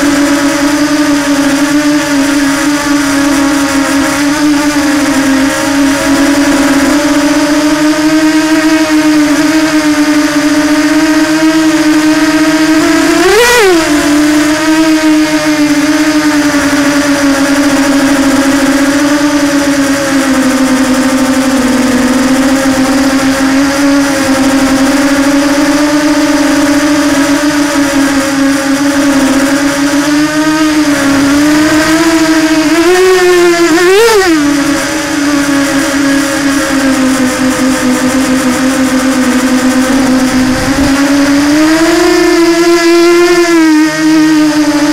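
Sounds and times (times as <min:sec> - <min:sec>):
electric motor whine: 0:00.0 - 0:44.9.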